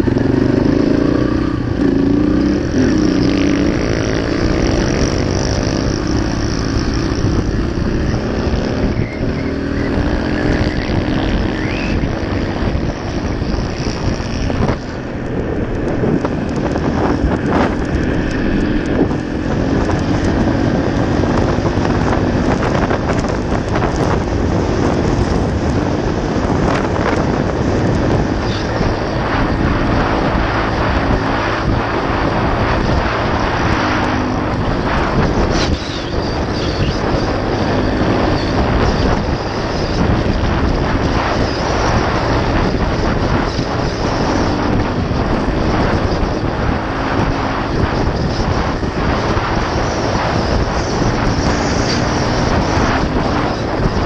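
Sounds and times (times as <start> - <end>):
dirt bike engine running: 0.0 - 54.0
wind noise on microphone: 0.0 - 54.0.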